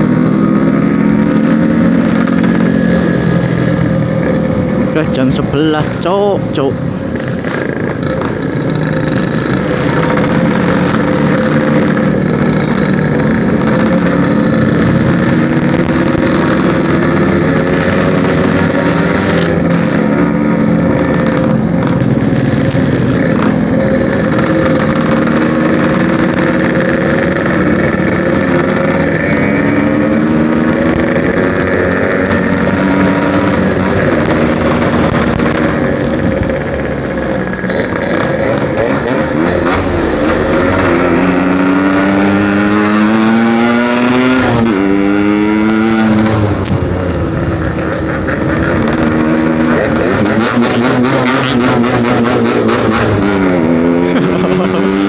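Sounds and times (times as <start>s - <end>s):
two-stroke motorcycle engine revving: 0.0s - 55.0s
wind and road noise: 0.0s - 55.0s.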